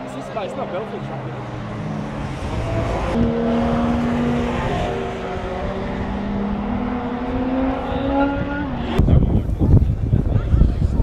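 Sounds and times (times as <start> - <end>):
race cars passing at high revs: 0.0 - 9.8.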